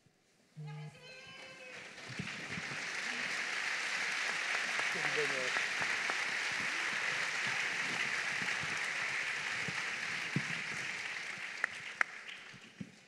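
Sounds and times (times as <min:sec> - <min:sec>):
audience applause: 0:01.6 - 0:12.9.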